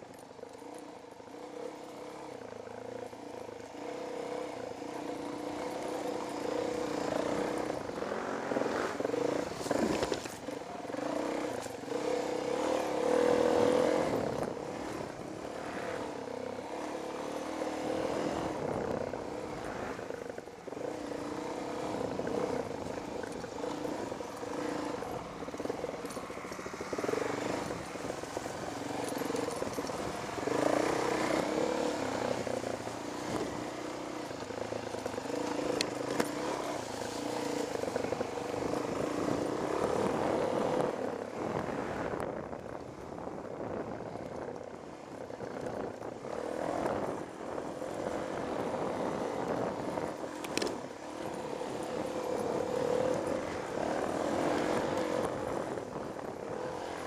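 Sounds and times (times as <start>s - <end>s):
dirt bike engine revving: 1.2s - 42.2s, 45.7s - 57.0s.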